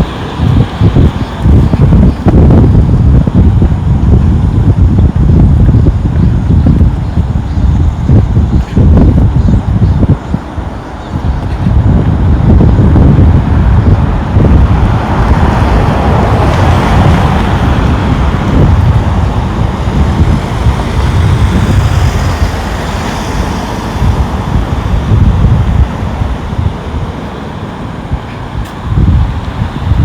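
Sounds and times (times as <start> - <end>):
road traffic passing: 0.0 - 30.0
wind buffeting microphone: 0.0 - 30.0.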